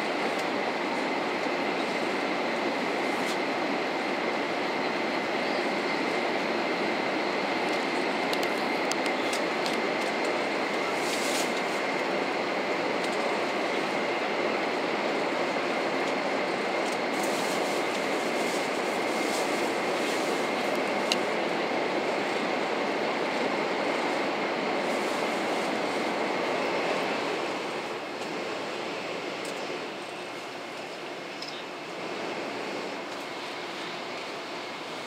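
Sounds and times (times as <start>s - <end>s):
train running rumble: 0.0s - 35.0s.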